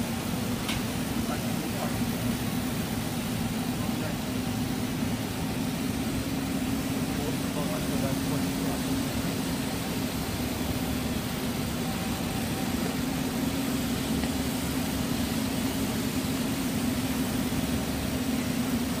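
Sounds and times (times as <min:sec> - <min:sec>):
machinery drone with constant hum: 0:00.0 - 0:19.0.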